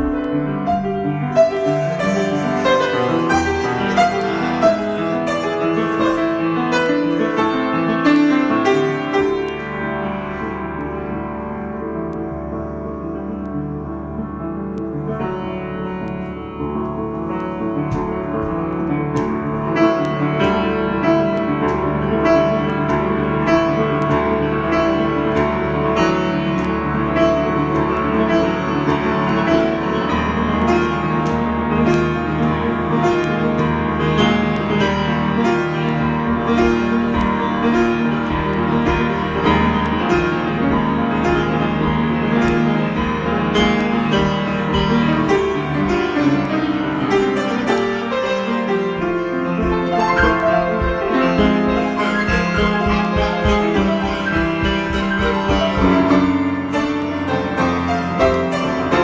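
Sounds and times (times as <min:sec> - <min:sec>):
piano improvisation: 0:00.0 - 0:59.0.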